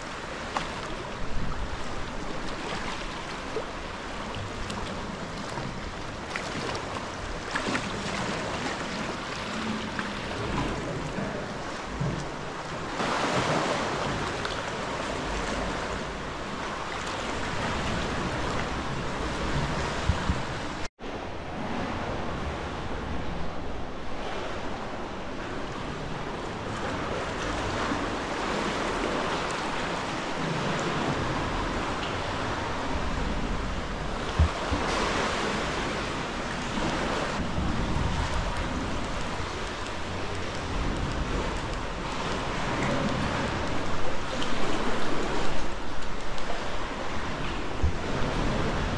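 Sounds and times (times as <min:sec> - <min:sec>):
water lapping against rock: 0:00.0 - 0:20.9, 0:25.8 - 0:48.9.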